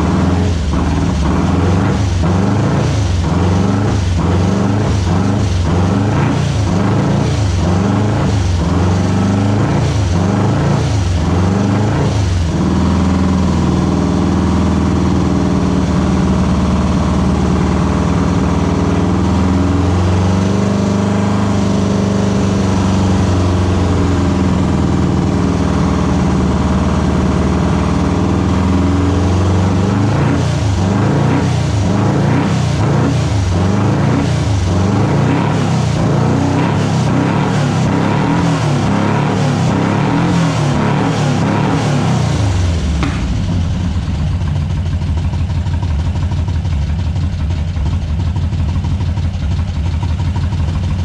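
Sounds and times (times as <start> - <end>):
dune buggy engine revving: 0.0 - 46.5.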